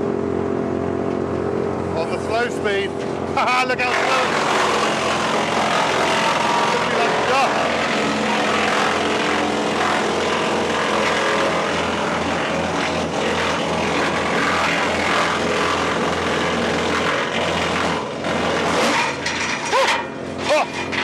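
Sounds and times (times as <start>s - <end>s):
wood chipper running under load: 0.0s - 21.0s
wood cracking: 3.8s - 21.0s.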